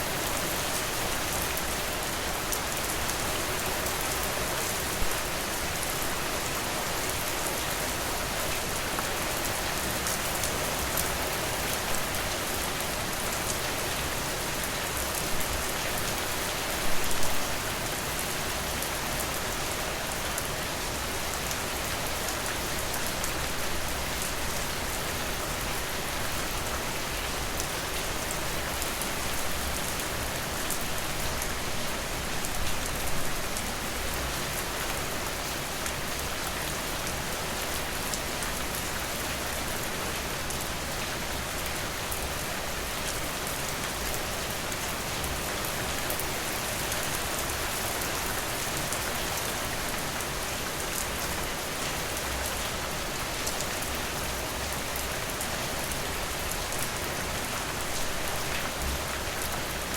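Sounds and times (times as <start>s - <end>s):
rainfall with drop ticks: 0.0s - 59.9s.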